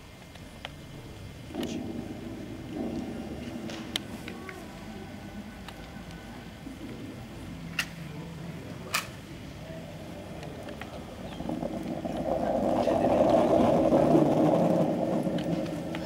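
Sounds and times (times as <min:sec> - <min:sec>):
murmur of many voices: 0:00.5 - 0:16.0.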